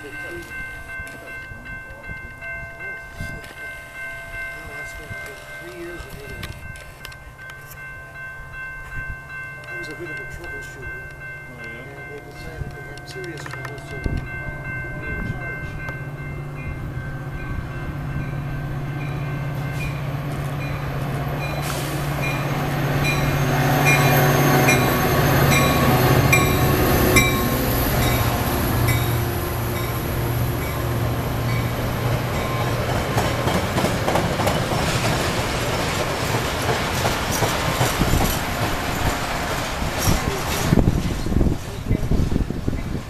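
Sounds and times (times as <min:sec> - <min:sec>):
locomotive engine hum: 0:04.3 - 0:43.0.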